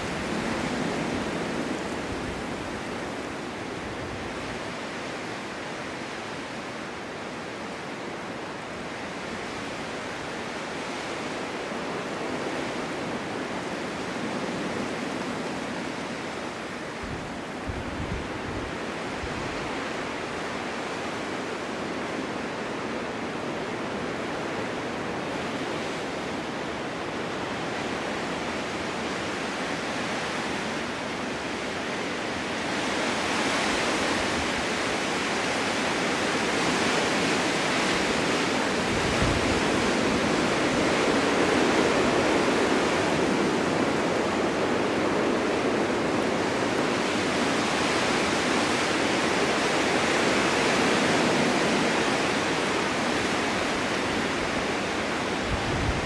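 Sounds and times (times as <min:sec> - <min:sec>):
snowstorm wind blowing: 0:00.0 - 0:56.0.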